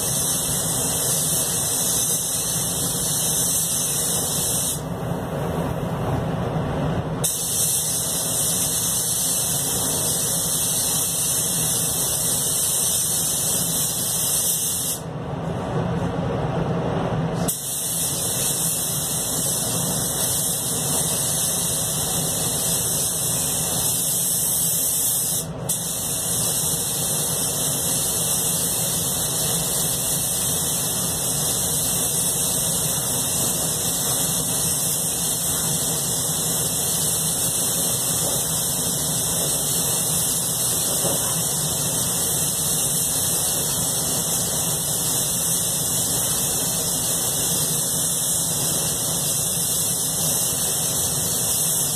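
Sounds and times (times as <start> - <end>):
spray gun hissing: 0.0 - 4.9, 7.2 - 15.0, 17.5 - 51.9
steady low hum: 0.0 - 51.9.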